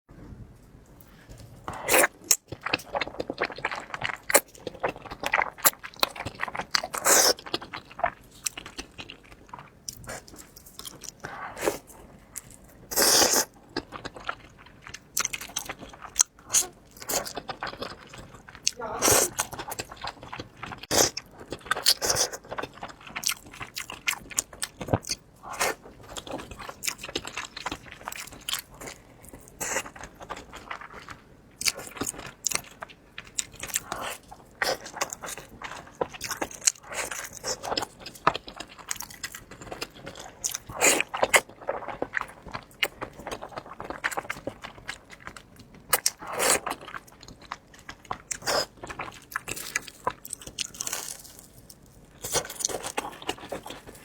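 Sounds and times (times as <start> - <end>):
crunchy bites and chewing: 1.8 - 54.0.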